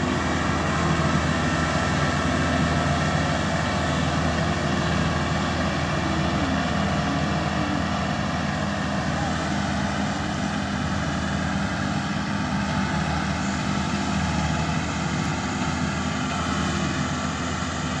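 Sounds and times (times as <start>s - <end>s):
combine harvester engine hum: 0.0s - 18.0s.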